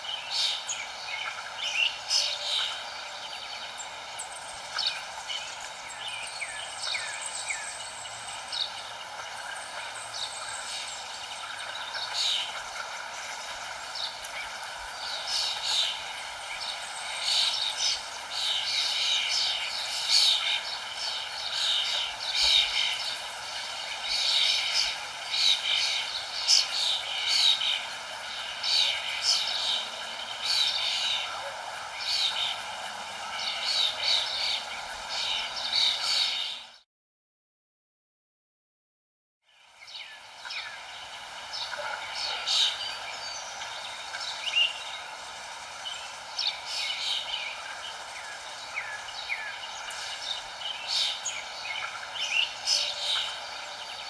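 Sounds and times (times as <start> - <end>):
birds chirping: 0.0 - 36.8, 39.7 - 54.0
steady background hiss: 0.0 - 36.8, 39.5 - 54.0.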